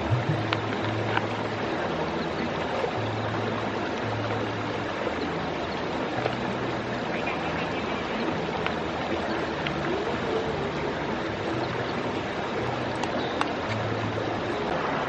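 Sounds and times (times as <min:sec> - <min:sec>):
river flowing: 0:00.0 - 0:15.0
soft background music: 0:00.0 - 0:15.0.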